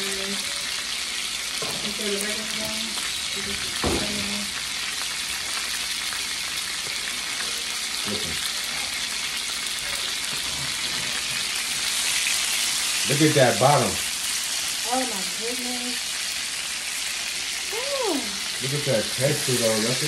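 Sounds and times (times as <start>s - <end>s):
burger patties sizzling in skillet: 0.0s - 20.0s.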